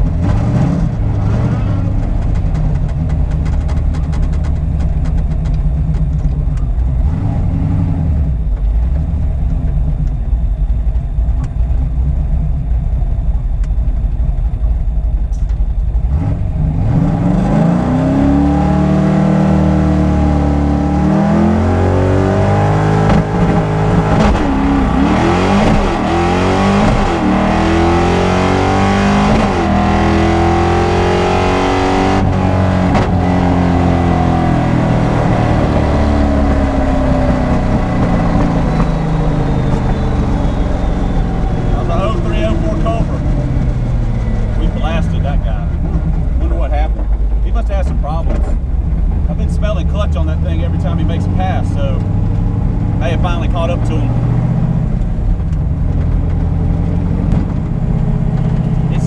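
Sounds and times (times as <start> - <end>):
drag car engine rumbling and revving: 0.0 - 59.0.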